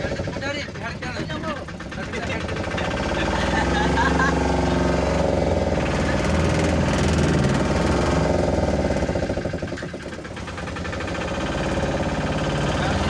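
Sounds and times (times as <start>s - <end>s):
van engine running: 0.0s - 13.0s.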